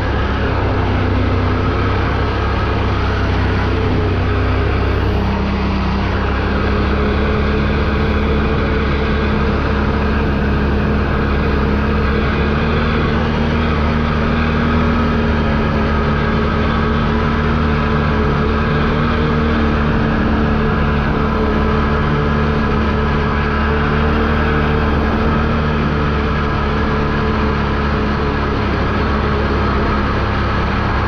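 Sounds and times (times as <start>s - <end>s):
engine drone: 0.0s - 31.0s
trail and wind noise: 0.0s - 31.0s.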